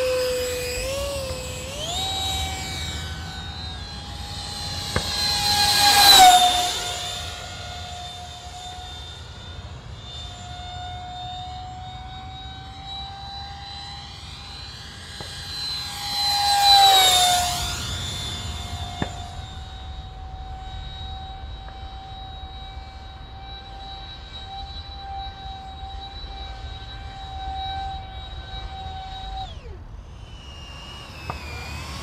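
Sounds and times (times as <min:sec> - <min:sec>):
model jet fan whining: 0:00.0 - 0:32.0.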